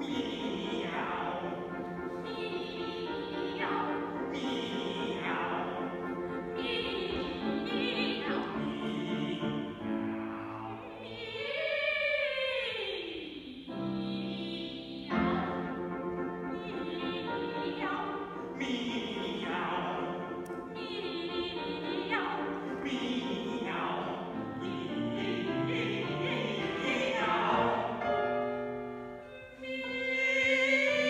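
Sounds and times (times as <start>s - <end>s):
group operatic singing: 0.0s - 10.0s, 10.6s - 28.4s, 29.3s - 31.0s
piano accompaniment: 0.0s - 11.4s, 13.7s - 31.0s.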